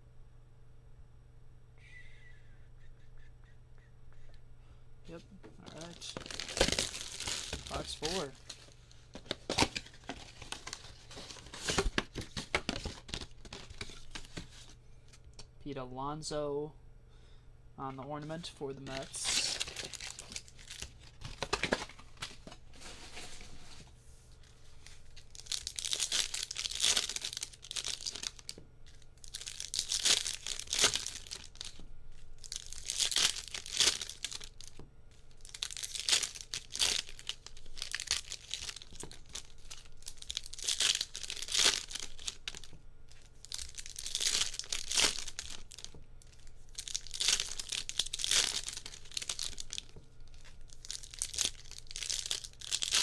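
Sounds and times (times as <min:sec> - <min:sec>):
foil wrappers tearing and crinkling: 0:05.6 - 0:14.8, 0:18.8 - 0:23.8, 0:24.4 - 0:53.0.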